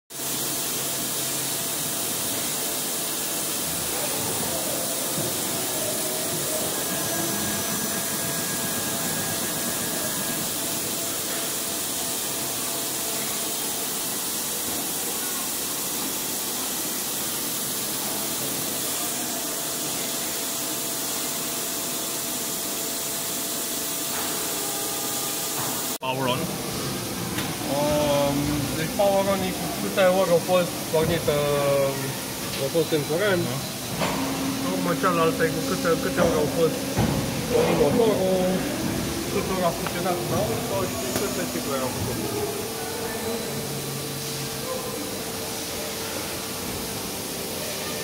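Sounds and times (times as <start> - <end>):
hissing machinery: 0.2 - 48.0.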